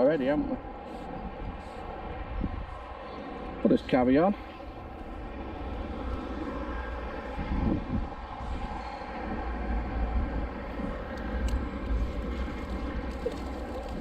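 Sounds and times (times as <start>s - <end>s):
distant engine drone: 0.0s - 14.0s
wind rumble on microphone: 0.0s - 14.0s.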